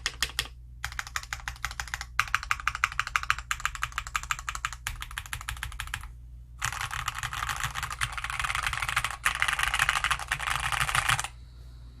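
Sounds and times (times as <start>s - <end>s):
fast typing on mechanical keyboard: 0.0s - 11.3s.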